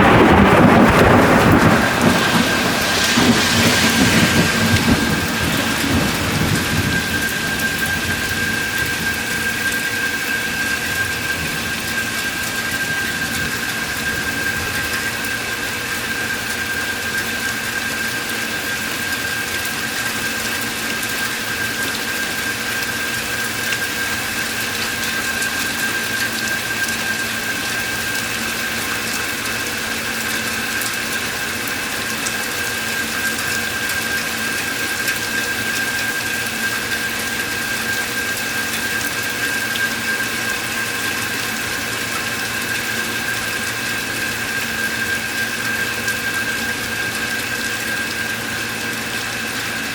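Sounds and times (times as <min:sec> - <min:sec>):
constant high whine: 0:00.0 - 0:49.9
steady rain hiss: 0:00.0 - 0:49.9.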